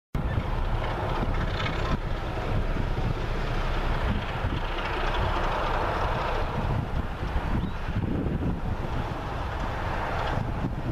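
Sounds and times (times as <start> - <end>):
distant diesel locomotives running: 0.2 - 10.9
wind buffeting microphone: 0.2 - 10.9.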